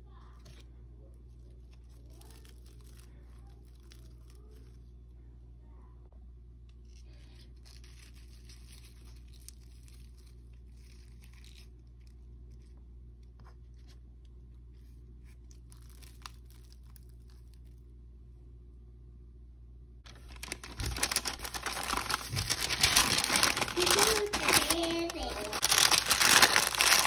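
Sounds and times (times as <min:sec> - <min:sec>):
food crinkling and rustling: 0:01.2 - 0:05.0, 0:06.8 - 0:17.9, 0:20.1 - 0:27.0.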